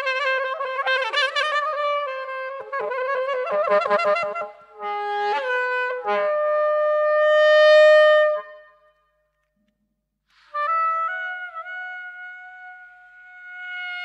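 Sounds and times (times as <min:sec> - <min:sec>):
soprano saxophone: 0:00.0 - 0:08.8, 0:10.5 - 0:14.0.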